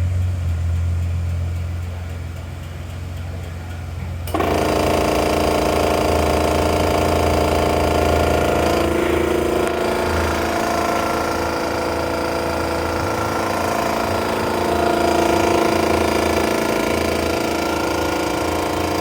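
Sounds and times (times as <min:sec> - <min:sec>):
machine low hum: 0:00.0 - 0:19.0
mechanical whine with rattle: 0:00.0 - 0:19.0.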